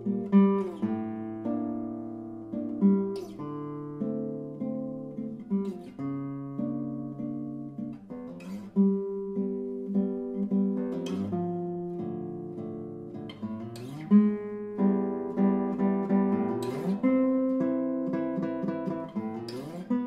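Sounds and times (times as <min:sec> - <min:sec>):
classical guitar playing: 0:00.0 - 0:20.0.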